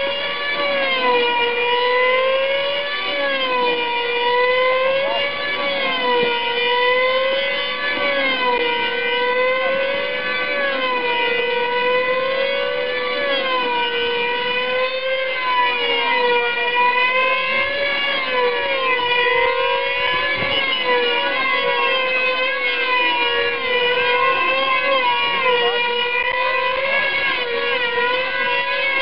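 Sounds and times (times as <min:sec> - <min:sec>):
model aircraft engines whining: 0:00.0 - 0:29.0.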